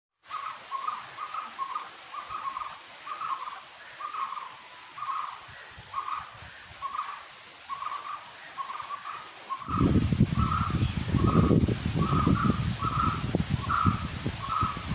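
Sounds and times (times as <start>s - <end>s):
bird calling: 0.2s - 14.9s.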